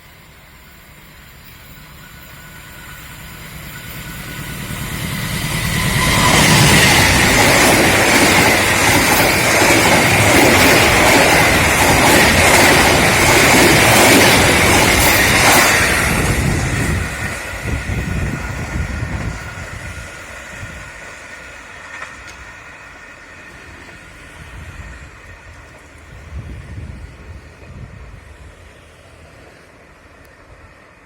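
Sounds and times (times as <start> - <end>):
rail joint clicks: 0.0 - 31.0
train wheels rushing on rail: 0.0 - 31.0.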